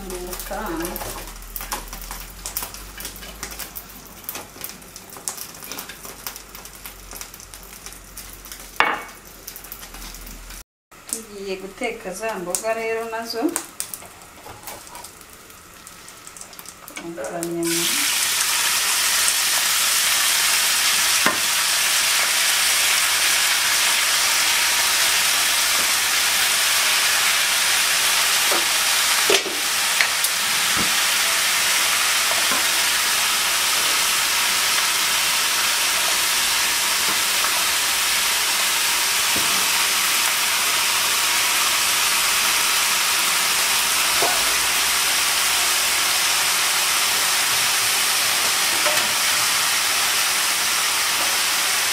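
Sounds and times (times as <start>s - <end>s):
food sizzling in hot oil: 0.0s - 51.9s.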